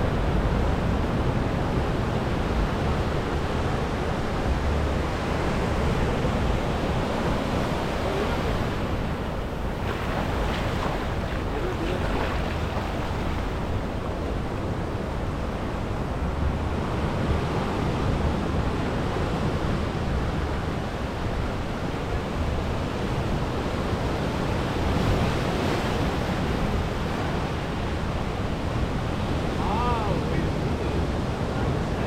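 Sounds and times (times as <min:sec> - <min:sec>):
sea surf washing ashore: 0:00.0 - 0:32.0
wind rumbling on microphone: 0:00.0 - 0:32.0.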